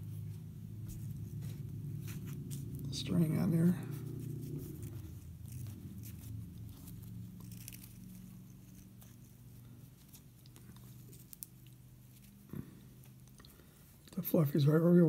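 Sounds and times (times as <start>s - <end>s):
fingers rustling a feather: 0.0s - 14.8s
steady low hum: 0.0s - 15.0s.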